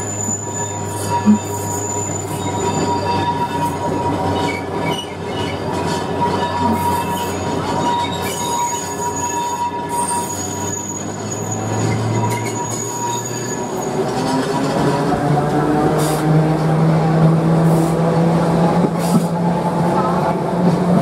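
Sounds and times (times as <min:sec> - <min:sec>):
tram wheels squealing on rails: 0:00.0 - 0:21.0.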